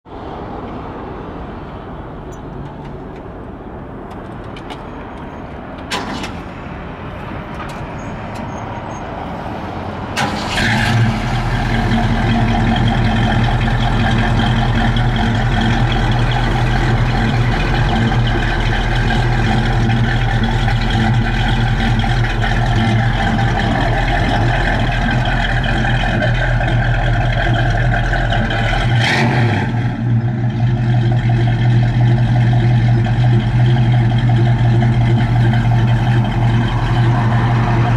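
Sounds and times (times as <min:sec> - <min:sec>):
car engine starting and idling: 0:02.1 - 0:08.6, 0:10.0 - 0:37.9.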